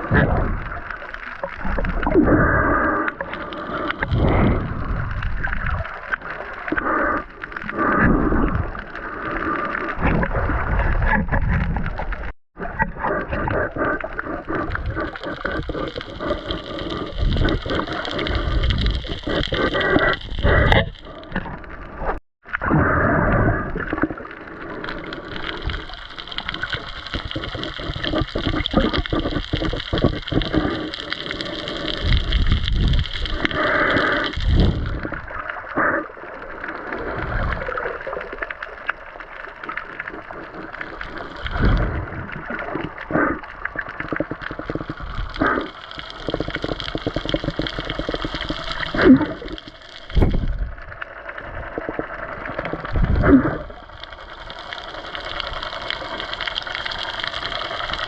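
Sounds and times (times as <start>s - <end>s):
small underwater clicks: 0.0s - 22.6s, 23.2s - 58.0s
underwater gurgling and bubbling: 0.0s - 58.0s.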